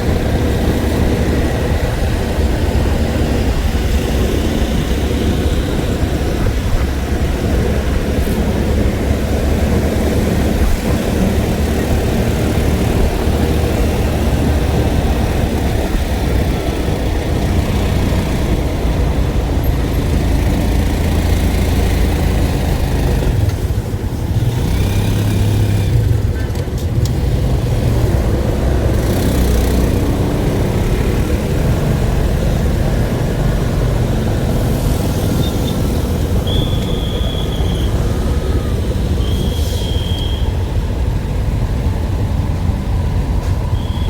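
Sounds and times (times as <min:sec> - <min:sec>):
engine humming steadily: 0:00.0 - 0:44.0.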